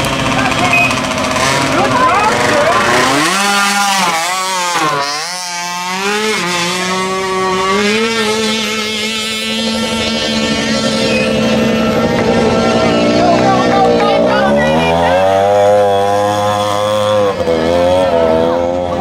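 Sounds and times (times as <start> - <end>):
mini atv engine at high revs: 0.0 - 19.0.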